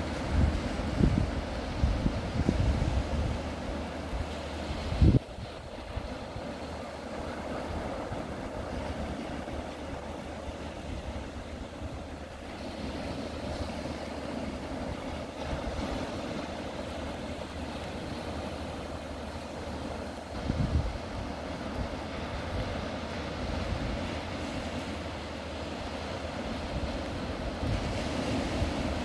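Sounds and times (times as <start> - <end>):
wind noise on microphone: 0.0 - 16.6, 20.2 - 29.0
small waves washing onto beach: 0.0 - 29.0.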